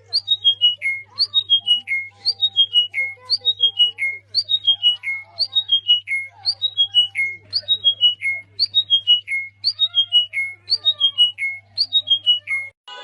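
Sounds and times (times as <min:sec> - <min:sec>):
songbird singing: 0:00.0 - 0:12.8.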